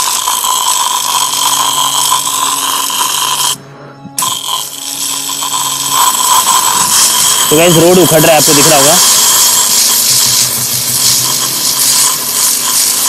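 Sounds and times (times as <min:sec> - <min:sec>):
pressure washer spray hissing: 0:00.0 - 0:03.6, 0:04.2 - 0:13.0
motor hum: 0:00.0 - 0:13.0.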